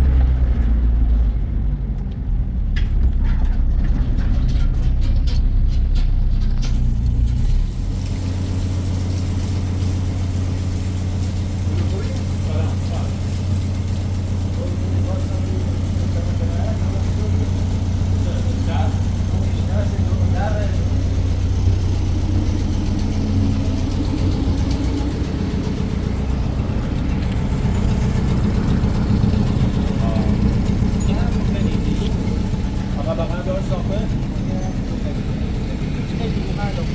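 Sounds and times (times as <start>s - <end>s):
car engine rumbling: 0.0s - 36.9s
engine knocks: 0.0s - 36.9s.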